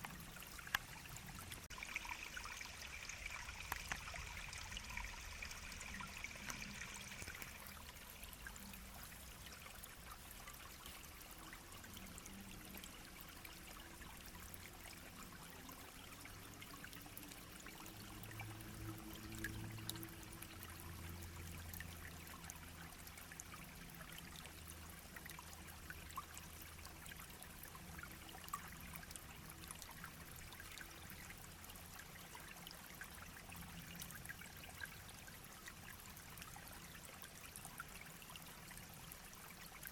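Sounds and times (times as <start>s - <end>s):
brook babbling and trickling: 0.0s - 39.9s
small splashes and drips: 0.0s - 39.9s.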